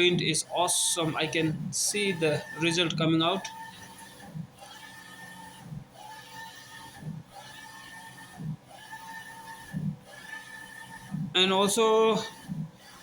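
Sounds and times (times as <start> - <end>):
printer carriage motor whine: 0.0 - 13.0.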